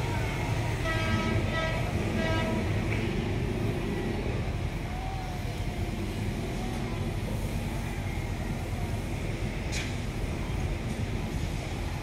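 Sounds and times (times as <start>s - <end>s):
city road traffic rumble: 0.0s - 12.0s.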